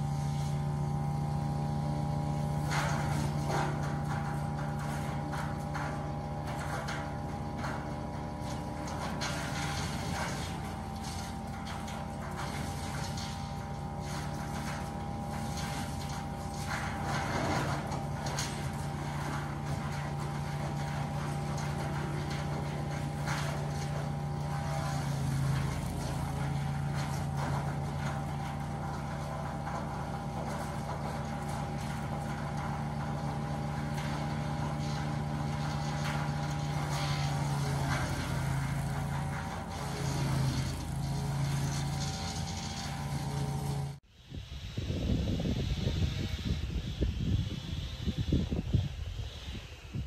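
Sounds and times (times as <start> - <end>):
branches crackling in chipper: 0.0 - 44.0
wood chipper running: 0.0 - 44.1.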